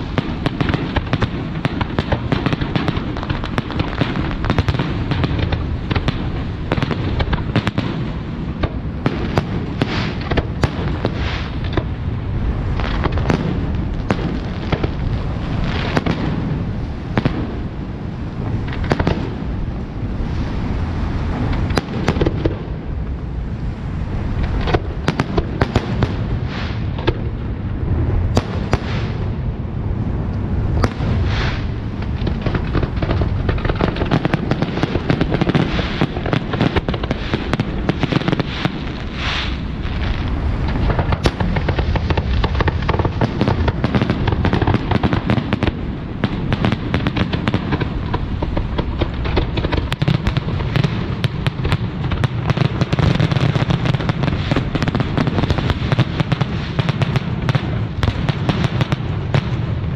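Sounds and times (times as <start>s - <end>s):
fireworks bangs and crackles: 0.0s - 59.9s
steady low rumble: 0.0s - 59.9s.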